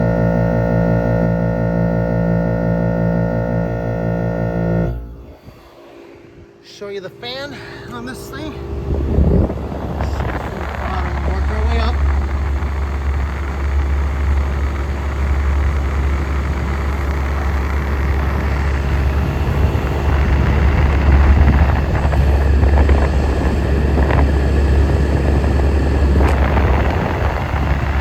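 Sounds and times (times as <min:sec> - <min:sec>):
air conditioner compressor hum: 0:00.0 - 0:28.0
air conditioner fan rushing: 0:00.0 - 0:28.0.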